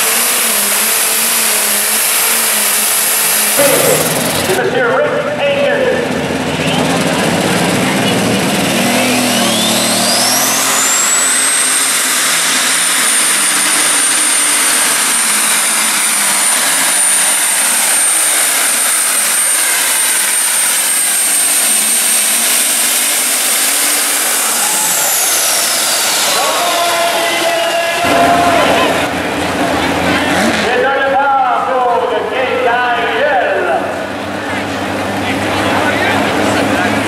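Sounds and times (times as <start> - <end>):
pulling tractor engine running: 0.0 - 32.9
turbocharger whine: 0.0 - 37.0.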